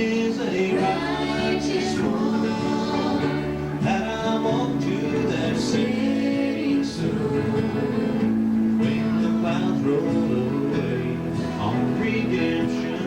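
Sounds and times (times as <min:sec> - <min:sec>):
acoustic guitar strumming: 0:00.0 - 0:13.0
bass: 0:00.0 - 0:13.0
piano: 0:00.0 - 0:13.0.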